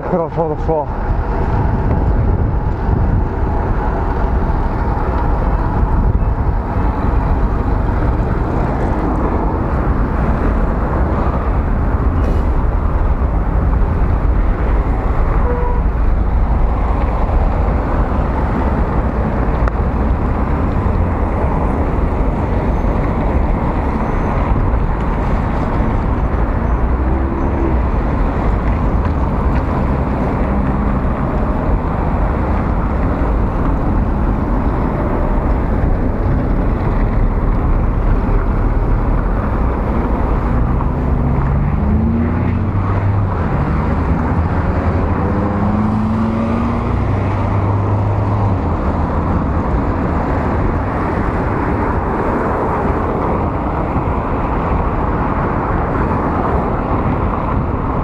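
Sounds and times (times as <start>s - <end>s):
road and traffic noise: 0.0s - 58.0s
wind rumble on microphone: 0.0s - 58.0s.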